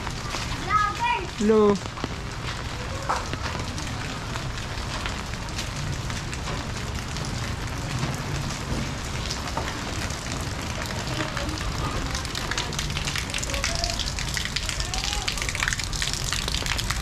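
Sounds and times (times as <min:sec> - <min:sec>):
rain falling: 0:00.0 - 0:17.0
raindrops ticking close by: 0:00.0 - 0:17.0.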